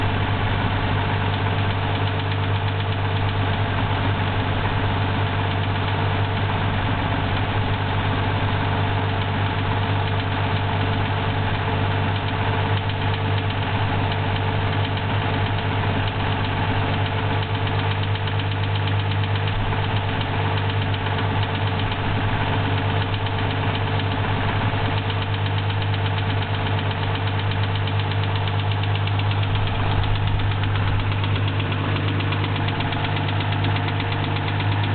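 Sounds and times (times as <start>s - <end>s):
petrol engine running with a knock: 5.2s - 34.9s.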